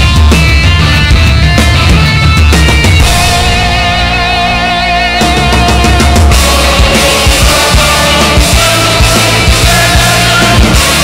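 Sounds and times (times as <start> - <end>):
loud rock music with drums: 0.0 - 11.0.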